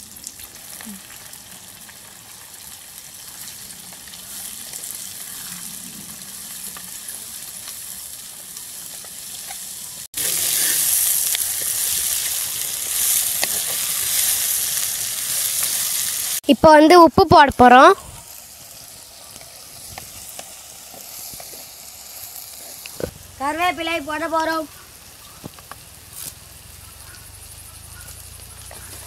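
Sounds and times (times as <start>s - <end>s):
onions sizzling in hot oil: 0.0s - 29.0s.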